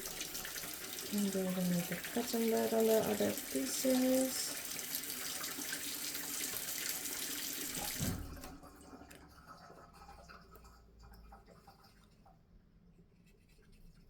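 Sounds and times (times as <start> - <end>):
tap water running in sink: 0.0 - 12.1.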